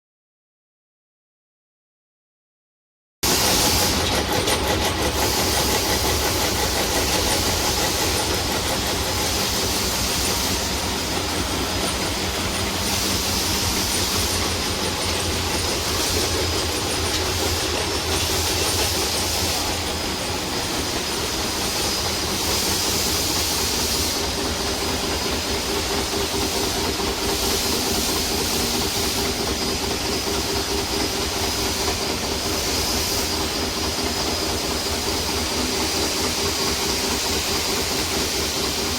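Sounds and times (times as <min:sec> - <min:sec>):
milling machine whining: 0:03.3 - 0:38.9.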